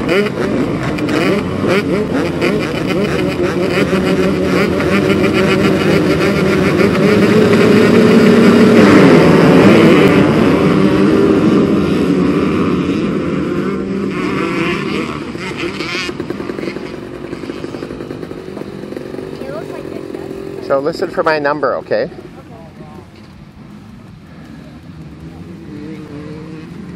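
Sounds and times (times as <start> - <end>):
dirt bike engines revving: 0.0 - 26.9.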